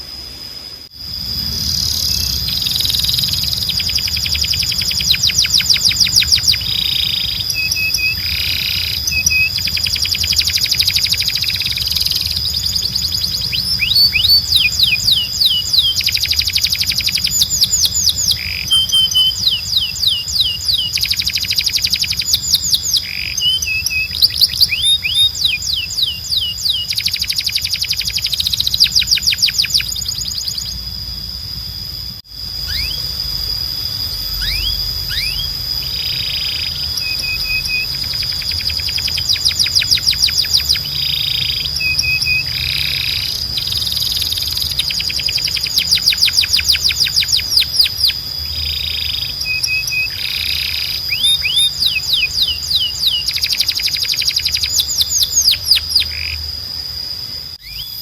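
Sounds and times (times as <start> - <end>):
low hum: 0.0 - 53.7
steady high tone: 0.0 - 58.0
canary singing trills: 0.9 - 58.0.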